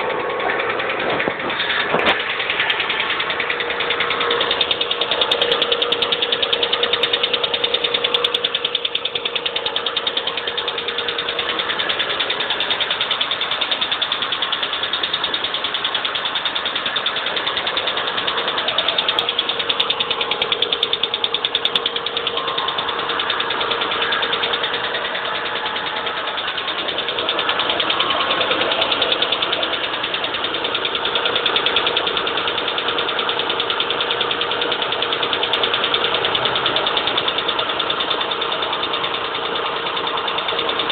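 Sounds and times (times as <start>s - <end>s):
car engine running: 0.0s - 40.9s
fast even engine ticking: 0.0s - 40.9s.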